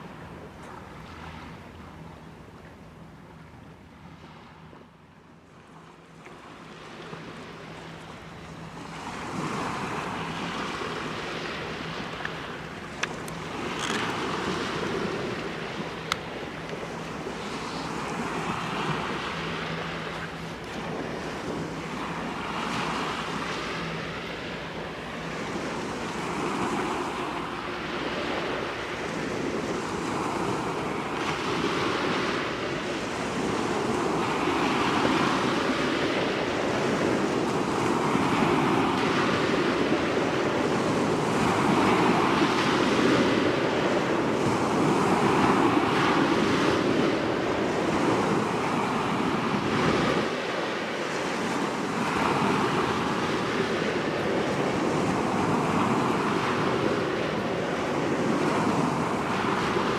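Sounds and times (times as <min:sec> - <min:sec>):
waves breaking on beach: 0:00.0 - 0:02.7, 0:03.3 - 0:59.9
wind on microphone: 0:08.7 - 0:59.9.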